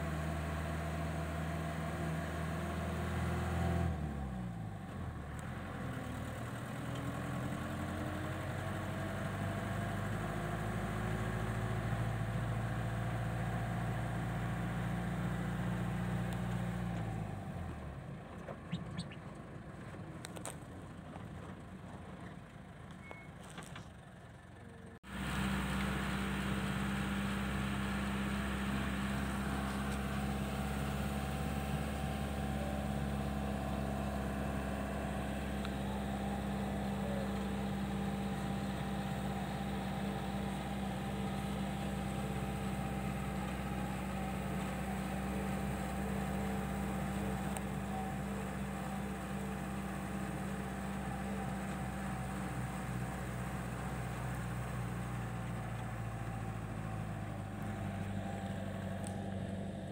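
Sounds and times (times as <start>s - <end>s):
road noise: 0.0s - 59.9s
vehicle engine droning: 0.0s - 59.9s.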